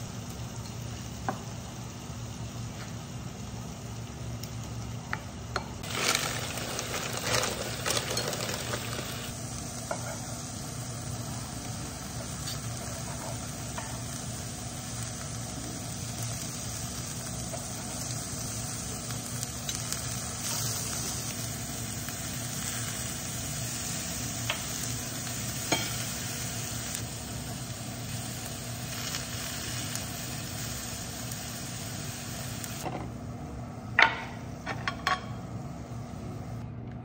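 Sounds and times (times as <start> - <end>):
steak sizzling on cast iron: 0.0 - 32.9.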